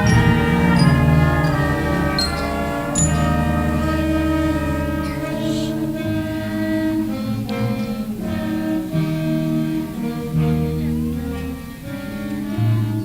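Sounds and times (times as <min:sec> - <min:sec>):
band playing slow held chords: 0:00.0 - 0:13.0.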